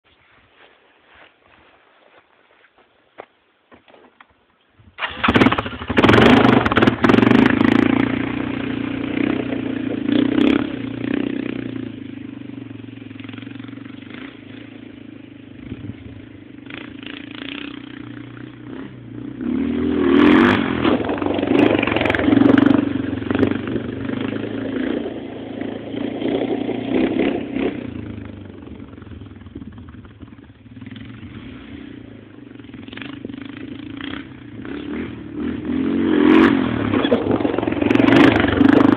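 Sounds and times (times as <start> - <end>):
atv engine revving: 5.0 - 38.9.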